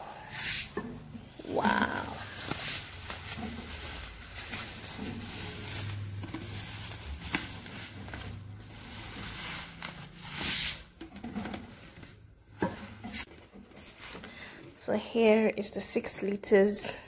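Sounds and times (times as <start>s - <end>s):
bubble wrap rustling and crackling: 0.0s - 14.3s.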